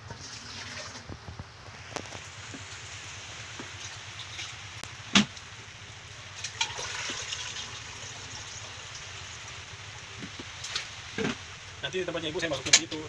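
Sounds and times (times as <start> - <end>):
water pouring and splashing: 0.0 - 13.0.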